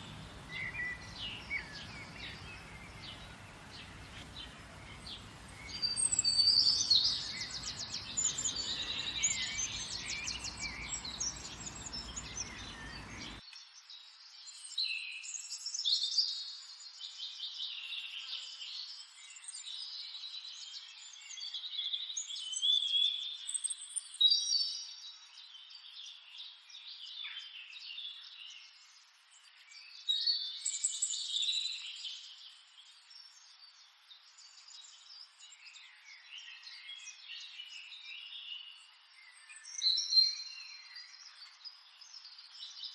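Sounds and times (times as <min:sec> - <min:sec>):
songbirds singing and chirping: 0:00.0 - 0:42.9.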